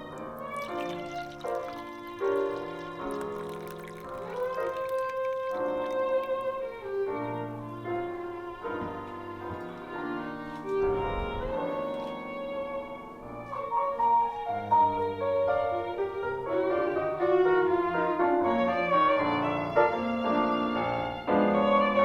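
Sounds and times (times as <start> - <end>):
piano: 0.0 - 22.0.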